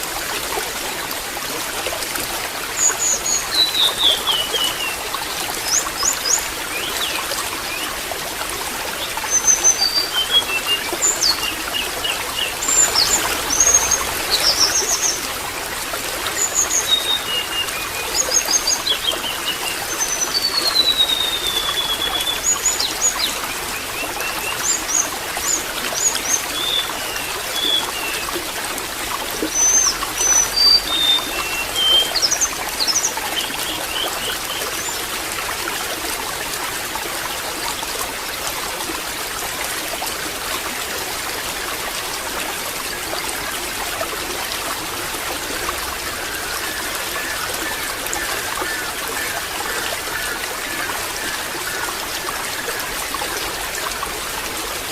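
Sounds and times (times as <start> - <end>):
water trickling and splashing: 0.0 - 54.9.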